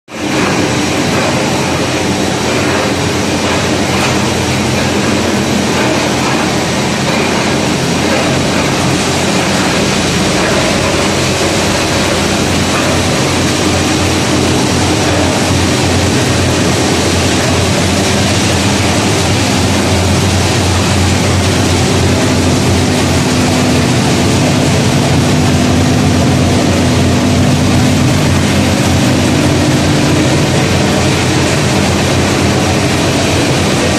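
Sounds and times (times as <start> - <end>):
machinery mechanical din: 0.1 - 33.9.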